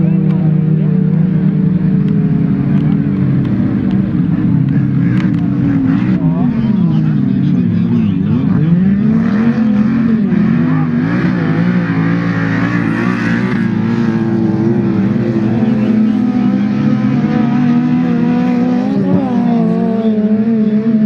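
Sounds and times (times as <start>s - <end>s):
race car engines revving: 0.0s - 21.0s.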